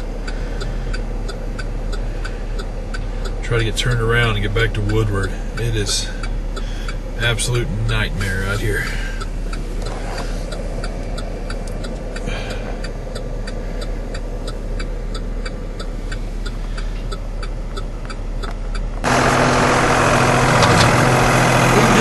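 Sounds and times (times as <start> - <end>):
rapid even ticking: 0.0 - 22.0
vehicle engine running: 0.0 - 22.0.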